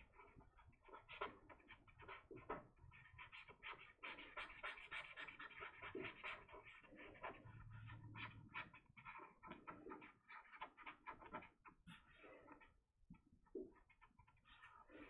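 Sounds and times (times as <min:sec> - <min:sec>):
brush pen scratching on paper: 0:00.0 - 0:12.8, 0:13.5 - 0:15.0.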